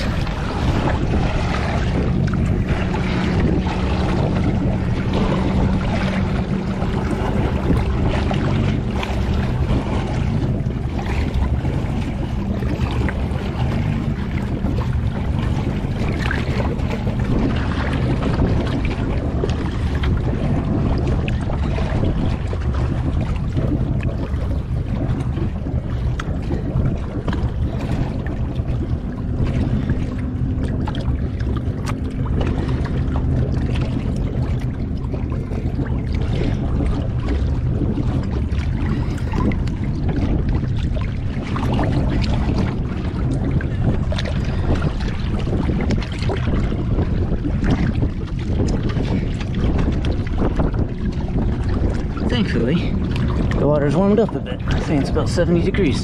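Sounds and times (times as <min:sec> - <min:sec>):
boat engine low hum: 0:00.0 - 0:56.0
water lapping and splashing: 0:00.0 - 0:56.0
wind buffeting microphone: 0:00.0 - 0:56.0.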